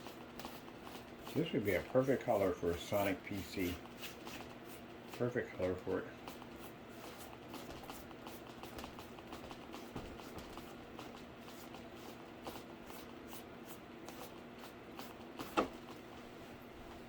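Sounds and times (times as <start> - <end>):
paint brush strokes on cardboard: 0.0 - 17.0.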